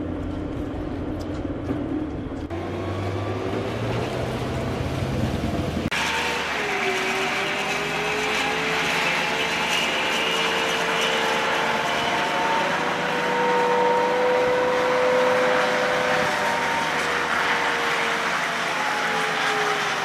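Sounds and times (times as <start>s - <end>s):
diesel engine rumble: 0.0s - 20.0s.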